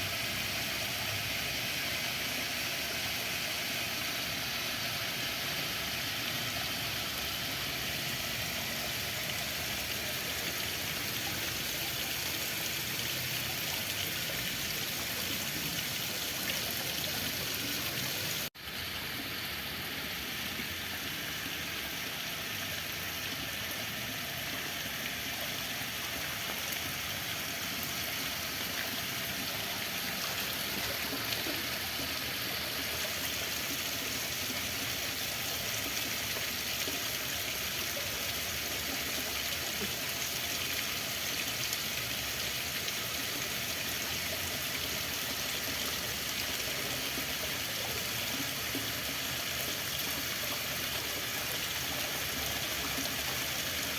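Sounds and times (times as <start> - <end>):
running water flowing: 0.0 - 53.9.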